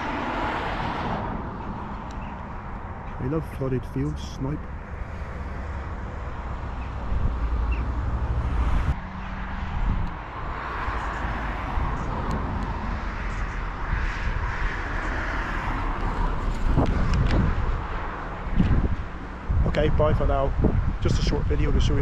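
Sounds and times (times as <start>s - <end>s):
car tyre noise passing: 0.0s - 22.0s
low traffic rumble: 0.0s - 22.0s.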